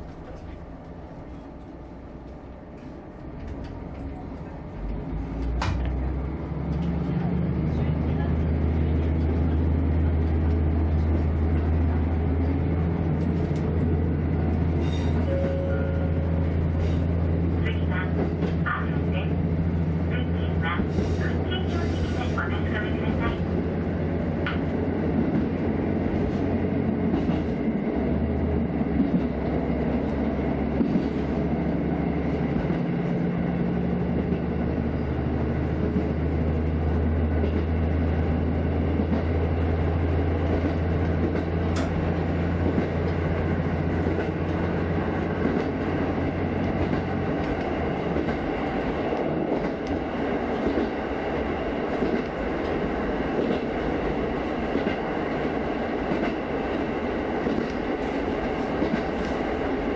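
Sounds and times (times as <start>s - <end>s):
low diesel engine drone: 0.0s - 59.9s
train wheels rumbling on rail: 0.0s - 59.9s.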